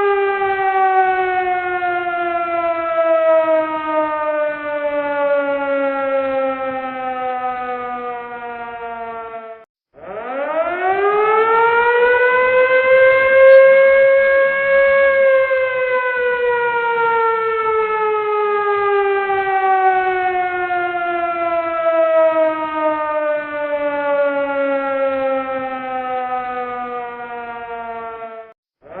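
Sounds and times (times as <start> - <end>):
emergency warning siren wailing: 0.0 - 29.0.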